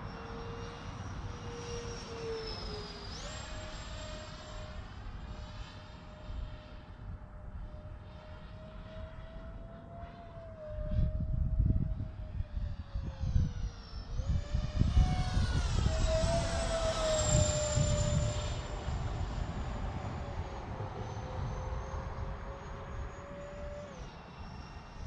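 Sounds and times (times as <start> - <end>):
model jet fans whining: 0.0 - 25.0.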